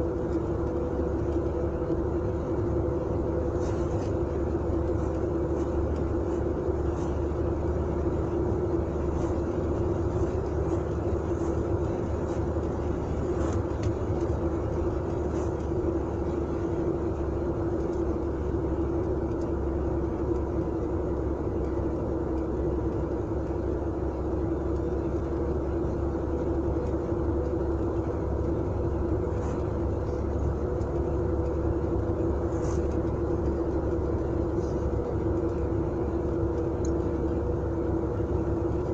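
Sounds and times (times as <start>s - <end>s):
car engine droning: 0.0s - 38.9s
tyres rumbling on road: 0.0s - 38.9s.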